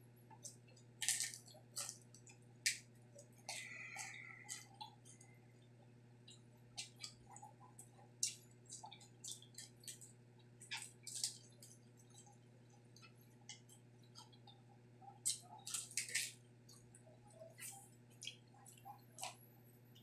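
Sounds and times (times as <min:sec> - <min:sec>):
faint steady hum: 0:00.0 - 0:20.0
crunchy chewing: 0:00.3 - 0:19.5.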